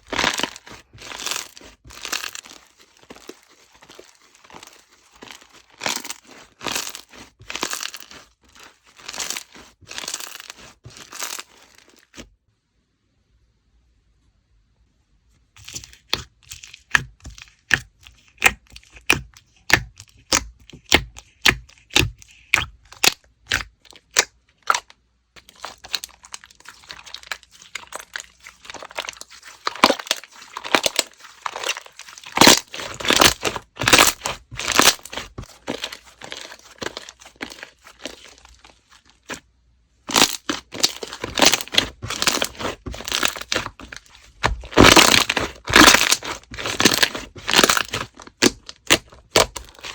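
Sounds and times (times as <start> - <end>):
slime popping and crackling: 0.0 - 12.2, 15.6 - 39.4, 40.1 - 49.9.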